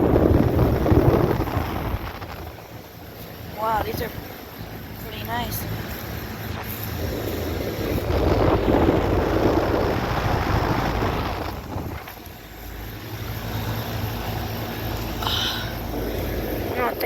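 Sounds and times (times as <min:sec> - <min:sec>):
compressor hum: 0:00.0 - 0:17.0
condenser fans rushing: 0:00.0 - 0:17.0.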